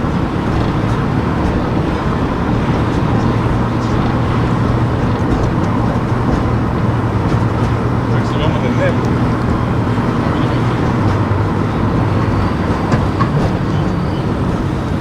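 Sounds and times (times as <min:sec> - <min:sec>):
car engine hum: 0:00.0 - 0:15.0
tyre and road noise: 0:00.0 - 0:15.0.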